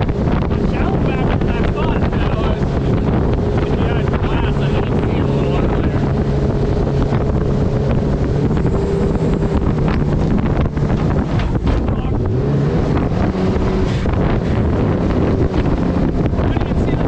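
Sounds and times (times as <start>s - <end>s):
jet boat engine running: 0.0s - 17.0s
wind noise on microphone: 0.0s - 17.0s.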